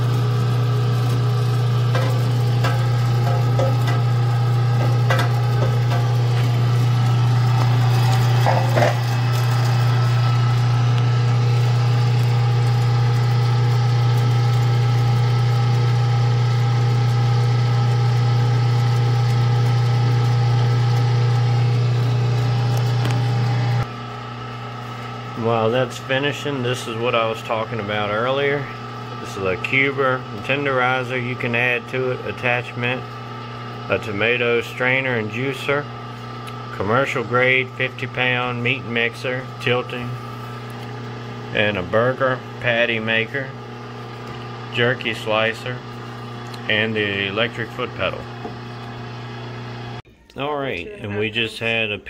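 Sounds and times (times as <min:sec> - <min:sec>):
electric meat grinder motor hum: 0:00.0 - 0:50.0.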